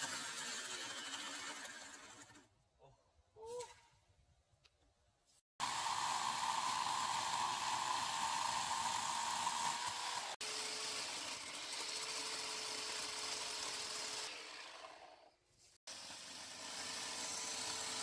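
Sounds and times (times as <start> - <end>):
electric chainsaw cutting: 0.0 - 2.5, 5.6 - 18.0.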